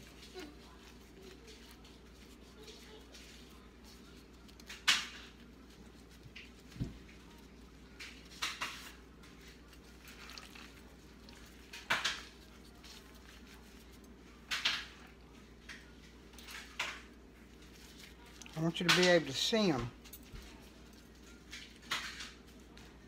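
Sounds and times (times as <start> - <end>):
patting mixture by hand: 0.0 - 23.0
plastic gloves crinkling: 0.0 - 23.0.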